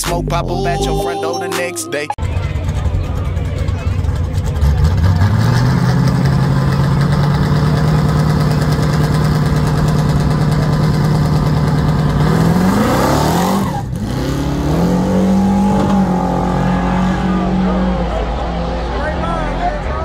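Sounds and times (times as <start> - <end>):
drag car engine revving: 2.2 - 20.0.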